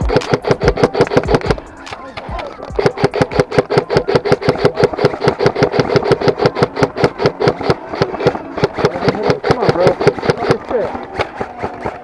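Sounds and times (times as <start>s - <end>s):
airsoft gun firing rapidly: 0.0s - 12.0s
mechanical whine: 0.0s - 12.0s.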